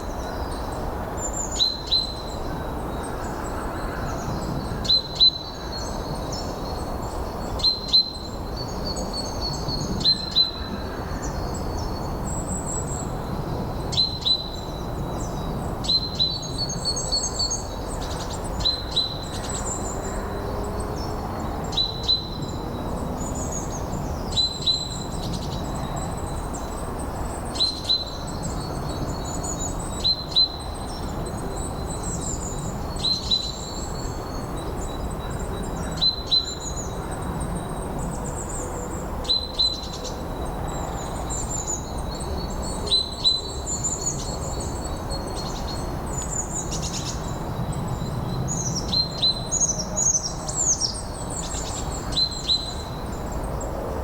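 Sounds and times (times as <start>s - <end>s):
low rush of wind: 0.0s - 54.0s.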